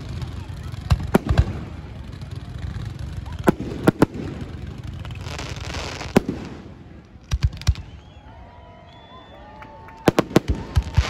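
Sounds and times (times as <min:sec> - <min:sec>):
fireworks bangs: 0:00.0 - 0:08.3, 0:09.8 - 0:11.0.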